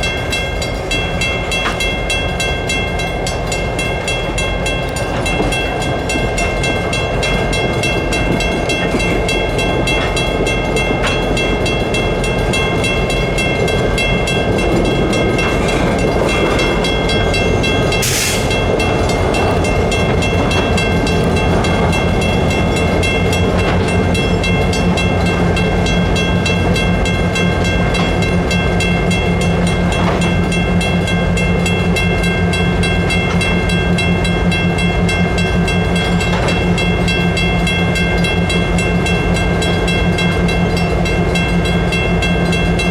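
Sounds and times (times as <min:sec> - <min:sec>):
diesel locomotive engine drone: 0:00.0 - 0:42.9.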